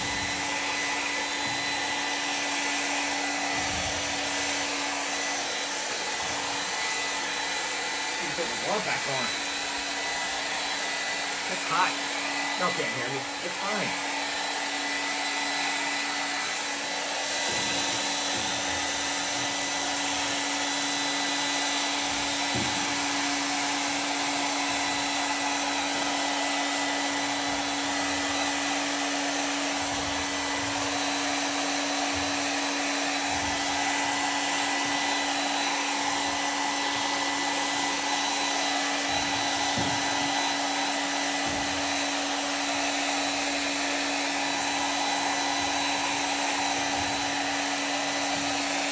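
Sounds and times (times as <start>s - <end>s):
heat gun fan humming: 0.0s - 48.9s.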